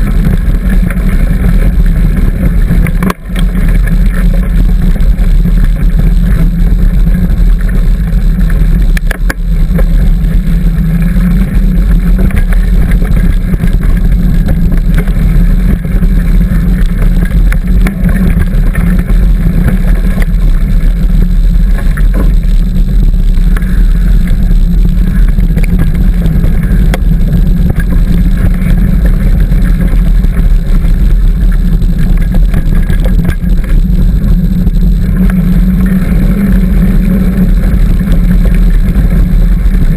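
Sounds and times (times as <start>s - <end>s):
bike tyres rolling on dirt: 0.0s - 39.9s
small clicks and rattles: 0.0s - 39.9s
wind buffeting microphone: 0.0s - 39.9s.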